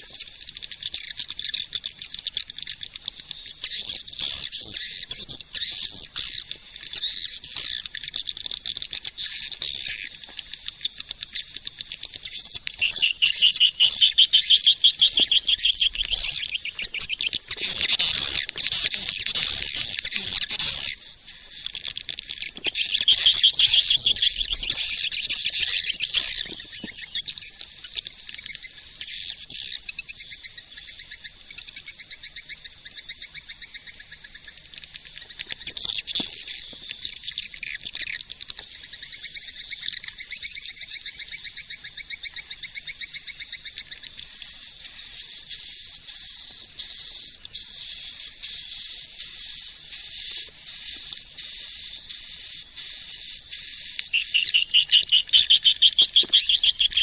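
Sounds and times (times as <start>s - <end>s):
swiftlets twittering chatter: 0.0s - 57.0s.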